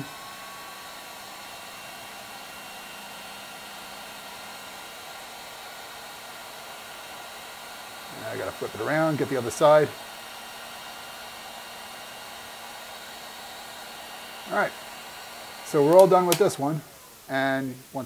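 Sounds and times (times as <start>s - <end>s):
faint motor whine: 0.0s - 18.0s
heat gun hissing air: 0.0s - 18.0s.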